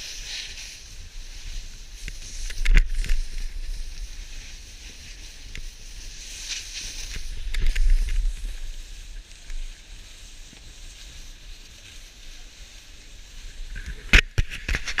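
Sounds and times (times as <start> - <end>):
snowboard sliding over snow: 0.0 - 15.0.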